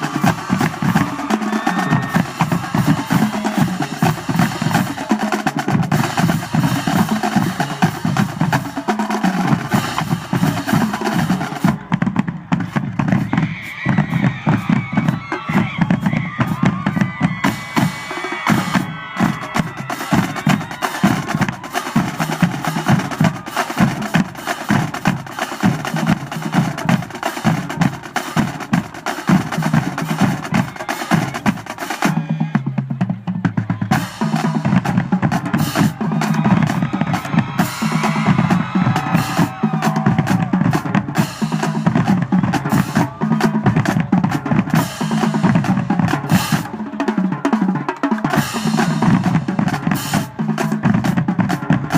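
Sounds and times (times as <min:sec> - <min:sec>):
bass drums: 0:00.0 - 0:46.8
snare drum strokes and rolls: 0:00.0 - 0:51.9.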